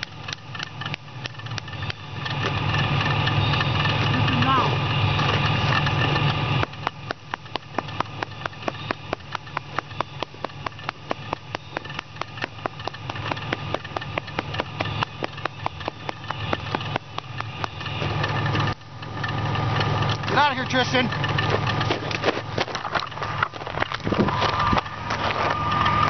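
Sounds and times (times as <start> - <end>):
fast regular clicks: 0.0 - 3.3, 5.1 - 25.3.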